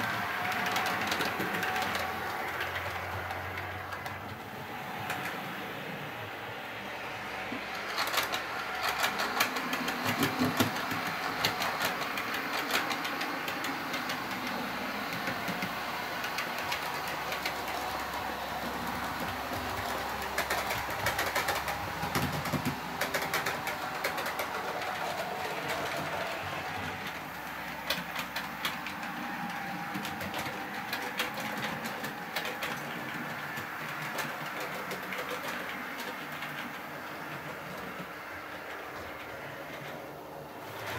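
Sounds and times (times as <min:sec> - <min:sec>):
wheels clicking over rail joints: 0:00.0 - 0:05.6, 0:07.3 - 0:40.9
model train running: 0:00.0 - 0:40.9.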